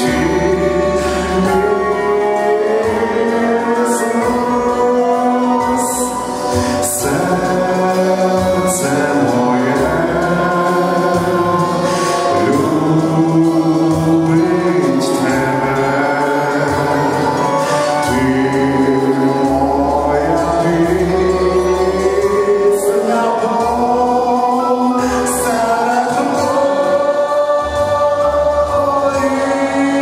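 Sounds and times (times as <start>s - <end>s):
man singing into a microphone: 0.0s - 30.0s
musical accompaniment with bass: 0.0s - 30.0s.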